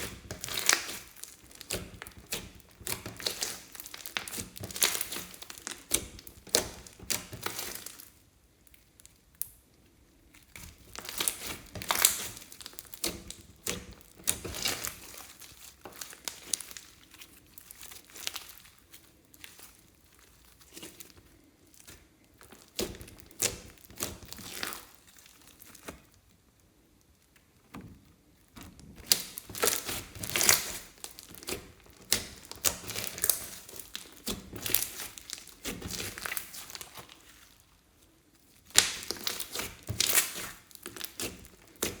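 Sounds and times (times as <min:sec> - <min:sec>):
slime crackling and popping: 0:00.0 - 0:09.6, 0:10.2 - 0:42.0.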